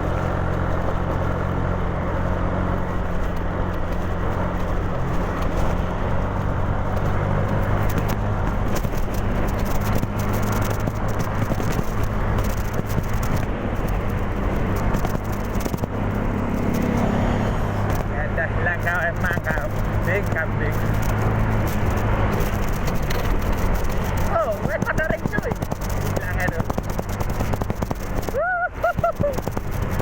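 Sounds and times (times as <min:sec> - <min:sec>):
scooter engine running: 0:00.0 - 0:30.0
wind and road noise: 0:00.0 - 0:30.0
light crackles: 0:00.1 - 0:30.0.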